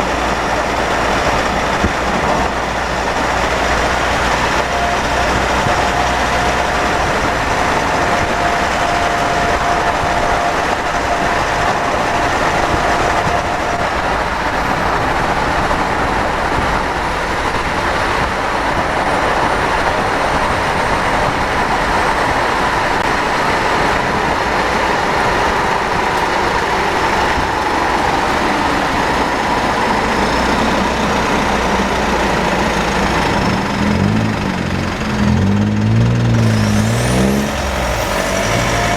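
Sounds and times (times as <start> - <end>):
drivetrain whining: 0.0 - 38.9
vehicle running noise: 0.0 - 38.9.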